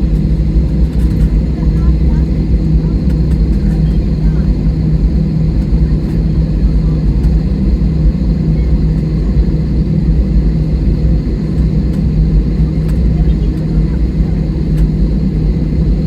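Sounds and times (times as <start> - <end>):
airliner cabin drone: 0.0 - 16.0.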